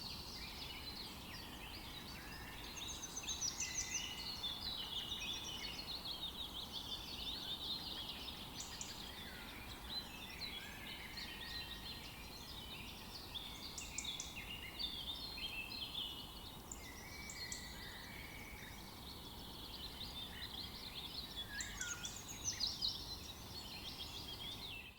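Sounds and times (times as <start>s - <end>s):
low steady background hiss: 0.0s - 24.9s.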